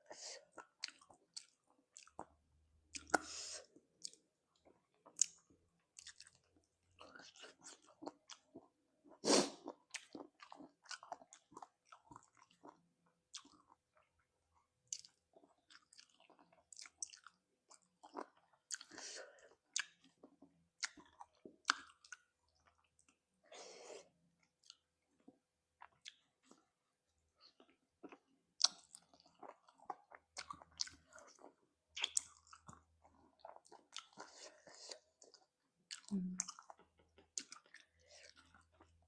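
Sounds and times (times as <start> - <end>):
chewing and biting: 0.5 - 2.3, 4.0 - 8.7, 9.6 - 14.2, 14.9 - 19.0, 19.6 - 23.2, 24.4 - 26.7, 27.4 - 39.0.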